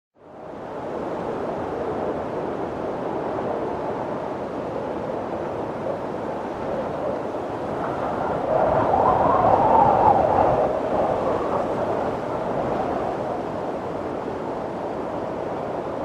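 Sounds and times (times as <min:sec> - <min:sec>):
wind blowing: 0:00.3 - 0:16.0.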